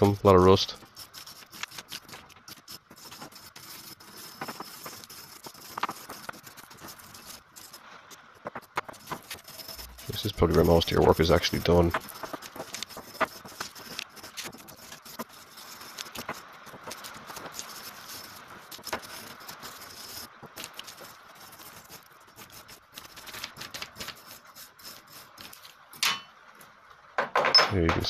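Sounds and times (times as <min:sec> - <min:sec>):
wire brush scraping metal: 0:00.0 - 0:07.8, 0:08.4 - 0:26.2.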